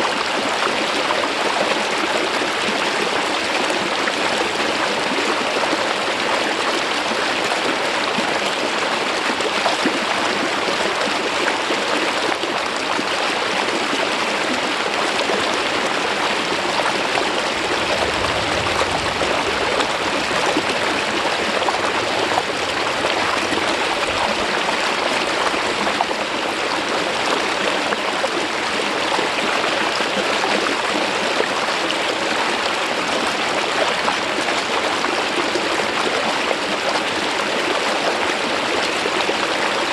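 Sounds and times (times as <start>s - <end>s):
stream water flowing over rock: 0.0s - 39.9s.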